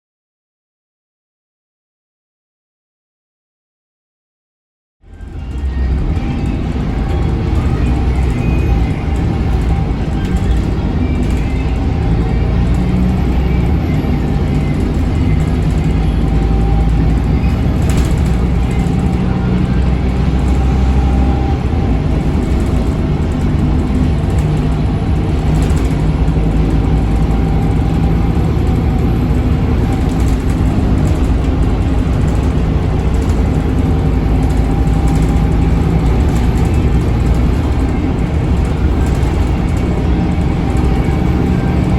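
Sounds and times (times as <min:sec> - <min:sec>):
bus diesel engine drone: 0:05.0 - 0:41.9.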